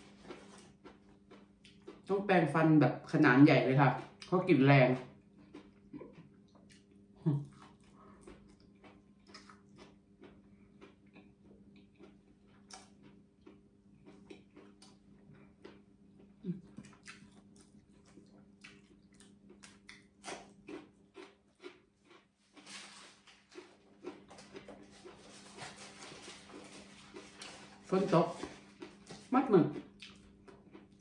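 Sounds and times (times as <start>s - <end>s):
person chewing food: 0.0s - 2.1s, 4.9s - 31.0s
faint steady hum: 0.0s - 31.0s.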